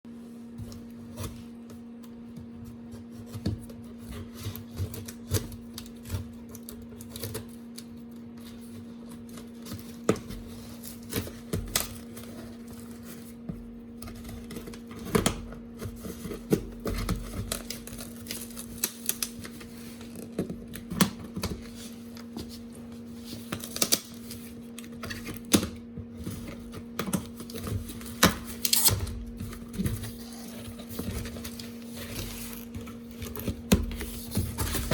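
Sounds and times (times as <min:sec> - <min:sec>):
cardboard and plastic packaging handling: 0:00.1 - 0:34.9.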